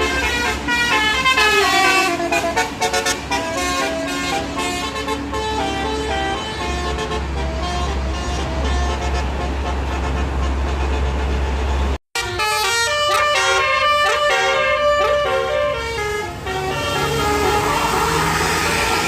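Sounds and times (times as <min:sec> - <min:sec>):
musical air horn playing a tune: 0:00.0 - 0:11.2, 0:12.2 - 0:19.0
bus engine running: 0:00.0 - 0:19.0.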